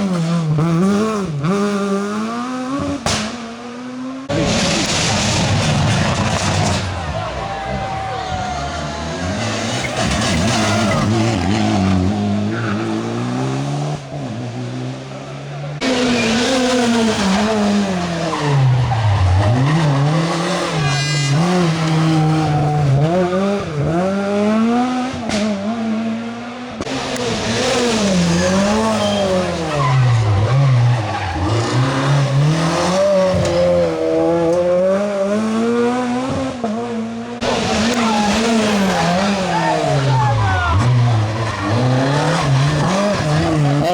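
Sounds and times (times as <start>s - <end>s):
rally car engine revving: 0.0s - 43.9s
tyres skidding: 0.0s - 43.9s.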